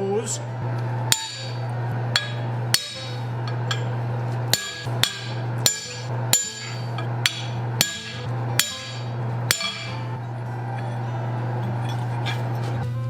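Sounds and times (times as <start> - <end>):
steady low hum: 0.0 - 13.0
hammer striking on steel: 1.0 - 12.4.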